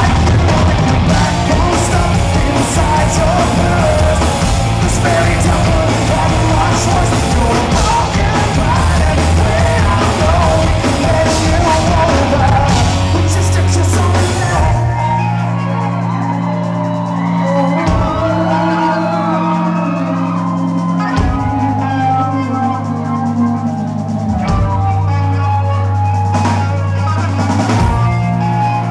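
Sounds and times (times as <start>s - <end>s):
bass notes: 0.0s - 28.9s
crowd cheering and whooping: 0.0s - 28.9s
drums and cymbals: 0.0s - 28.9s
electric guitar: 0.0s - 28.9s
man singing: 0.0s - 28.9s.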